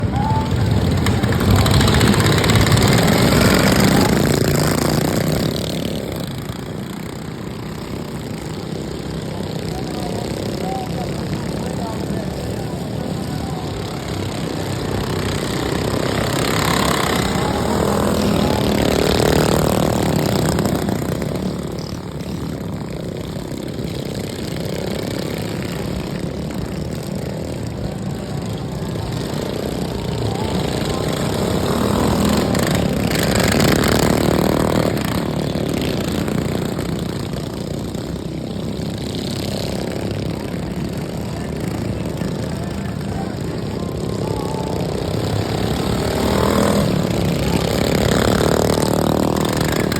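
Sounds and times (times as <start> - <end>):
racing lawnmower engines passing: 0.0 - 49.9.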